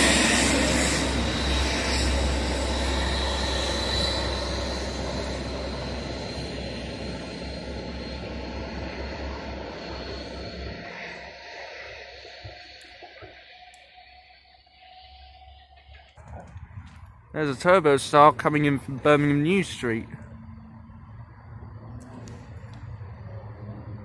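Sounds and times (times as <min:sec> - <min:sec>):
diesel train engine rumble: 0:00.0 - 0:24.0
thin high whine: 0:00.0 - 0:24.0.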